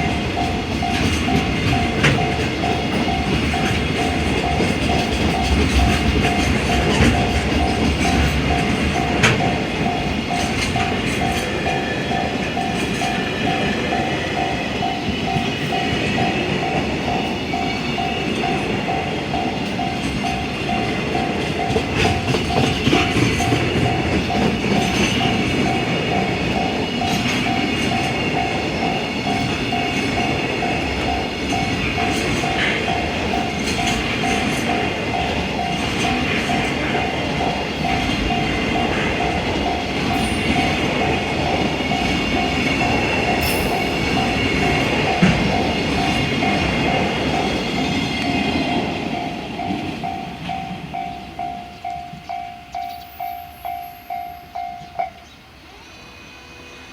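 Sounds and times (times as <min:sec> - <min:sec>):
train wheels clattering: 0:00.0 - 0:55.2
crossing warning bell ringing: 0:00.0 - 0:56.9.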